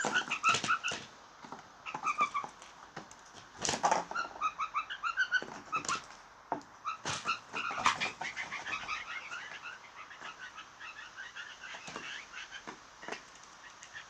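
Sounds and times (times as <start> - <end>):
blue jays croaking calls: 0.0 - 1.2, 1.8 - 2.6, 3.8 - 14.0.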